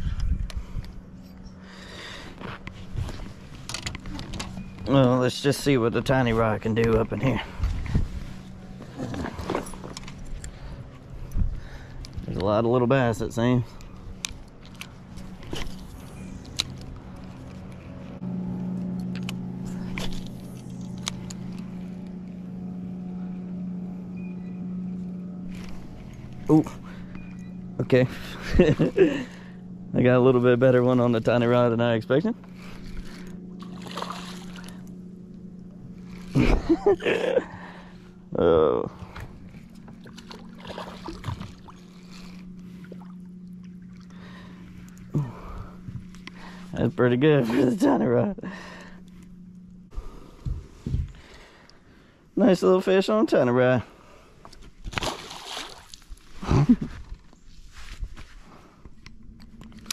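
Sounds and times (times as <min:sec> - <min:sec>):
boat motor humming: 0:00.0 - 0:59.9.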